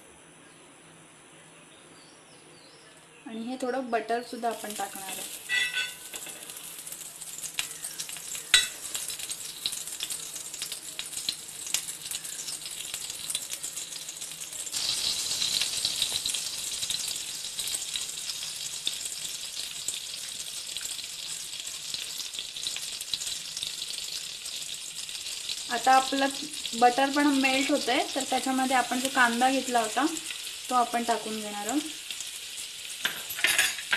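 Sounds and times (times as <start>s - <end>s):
oil sizzling and crackling: 3.6s - 33.9s
butter sizzling in hot oil: 4.2s - 33.9s.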